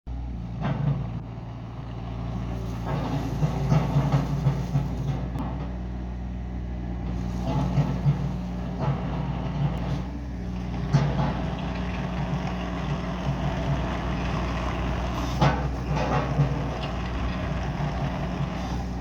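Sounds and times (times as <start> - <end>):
excavator diesel engine running: 0.1 - 19.0
excavator clunks: 0.2 - 6.1, 6.9 - 19.0.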